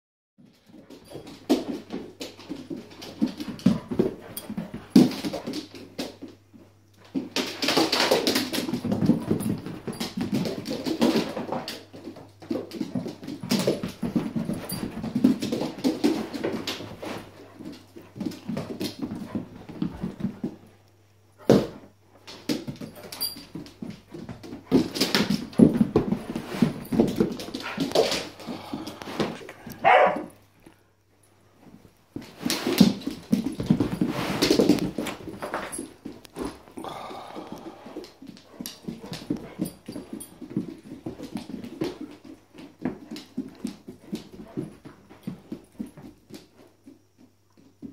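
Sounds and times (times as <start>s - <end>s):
dogs scuffling: 0.4s - 30.8s, 31.5s - 47.9s.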